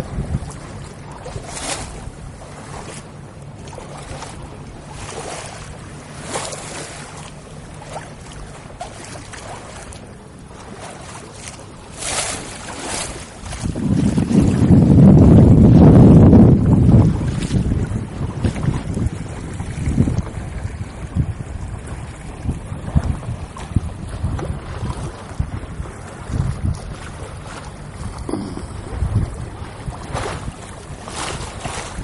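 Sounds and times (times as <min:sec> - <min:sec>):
steady low hum: 0:00.0 - 0:32.0
water splashing against boat hull: 0:00.0 - 0:32.0
wind rumble on microphone: 0:00.0 - 0:32.0.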